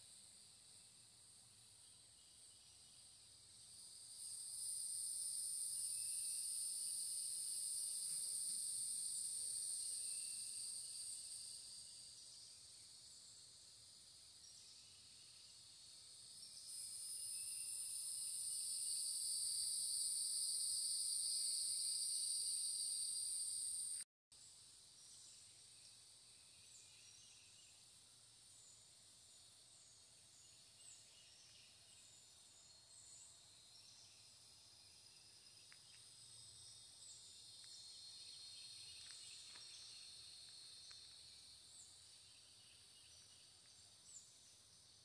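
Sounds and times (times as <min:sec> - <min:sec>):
cicadas buzzing: 0:00.0 - 0:24.0, 0:28.5 - 0:45.0.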